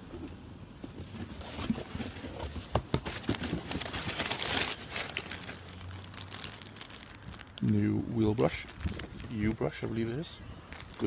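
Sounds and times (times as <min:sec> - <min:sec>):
cardboard packaging rustling: 0:00.0 - 0:11.0.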